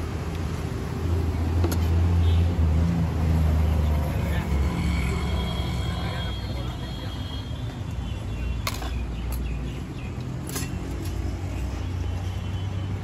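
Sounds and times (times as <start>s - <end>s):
street traffic rumbling: 0.0s - 13.0s.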